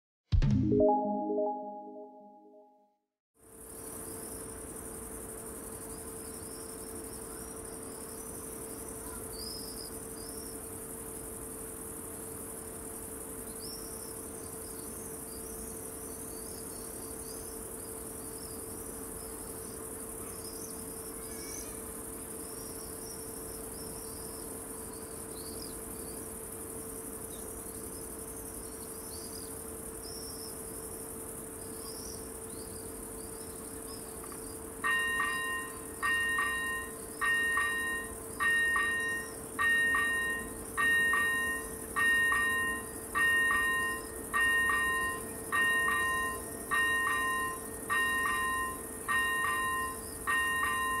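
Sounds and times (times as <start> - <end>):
crickets chirping: 3.6 - 51.0.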